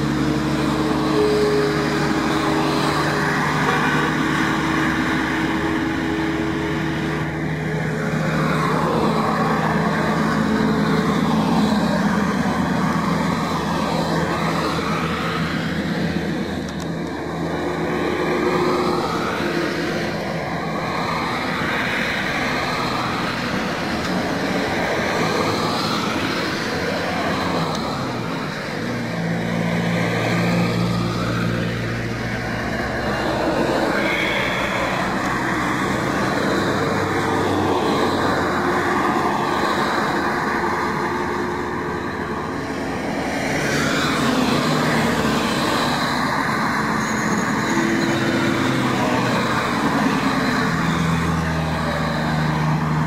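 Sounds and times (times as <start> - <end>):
tyre and road noise: 0.0 - 53.0
vehicle engine at highway speed: 0.0 - 53.0.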